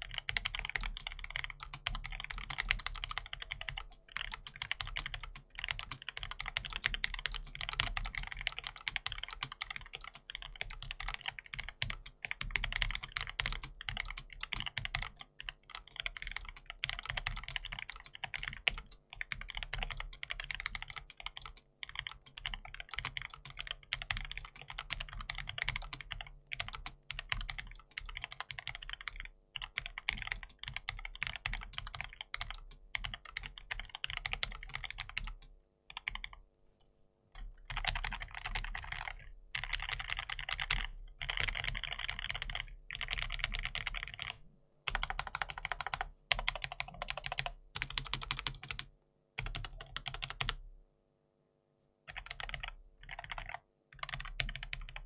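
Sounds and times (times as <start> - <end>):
mechanical keyboard typing: 0.0 - 36.4, 37.4 - 50.6, 52.1 - 55.0.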